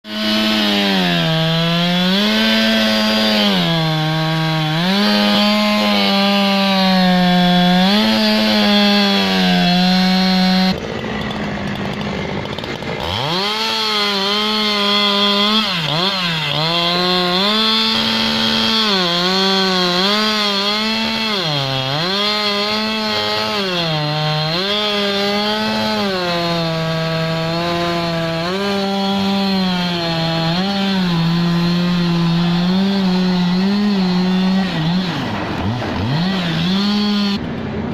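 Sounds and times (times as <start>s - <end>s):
chainsaw cutting into tree: 0.0s - 37.8s.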